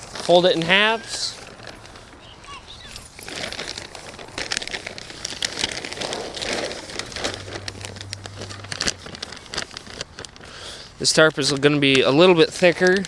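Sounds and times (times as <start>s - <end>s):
plastic tarp crinkling: 0.0s - 13.0s.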